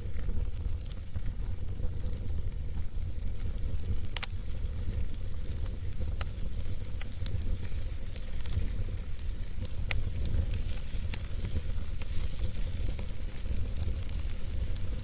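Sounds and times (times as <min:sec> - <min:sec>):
burning logs crackling and popping: 0:00.0 - 0:15.0
low rumble of flames: 0:00.0 - 0:15.0
soft hiss of fire: 0:00.0 - 0:15.0.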